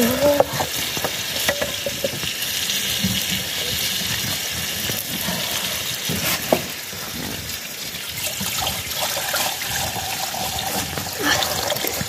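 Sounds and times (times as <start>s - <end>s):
water splashing into pot: 0.0s - 12.0s.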